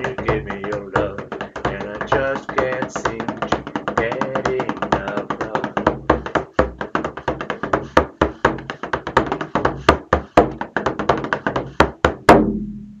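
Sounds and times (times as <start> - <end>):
frame drum played fast: 0.0 - 12.8.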